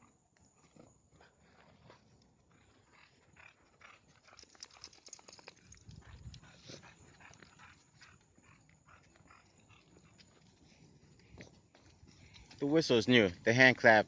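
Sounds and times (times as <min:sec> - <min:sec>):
dogs' footsteps: 0:00.0 - 0:14.0.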